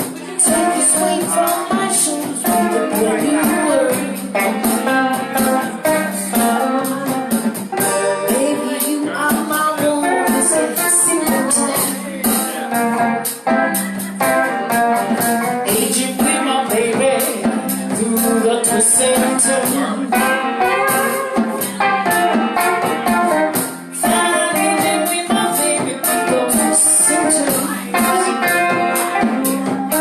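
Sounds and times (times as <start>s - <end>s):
band playing a song: 0.0s - 30.0s
high percussion rhythm: 0.0s - 30.0s
person singing: 0.0s - 30.0s.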